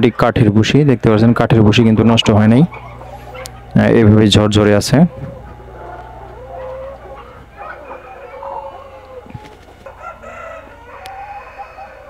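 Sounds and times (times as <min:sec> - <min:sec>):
hens clucking and calling: 0:00.0 - 0:12.0
steady low hum: 0:00.0 - 0:12.0.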